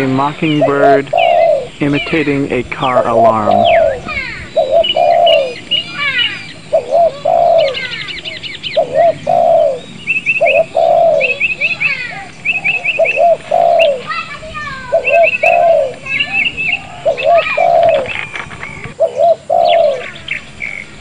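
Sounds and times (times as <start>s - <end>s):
bird imitating car alarm: 0.0s - 20.9s
bird chirping trills: 0.0s - 21.0s.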